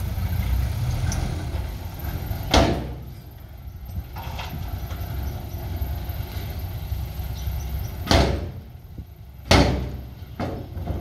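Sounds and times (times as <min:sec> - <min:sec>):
diesel machinery low rumble: 0:00.0 - 0:11.0.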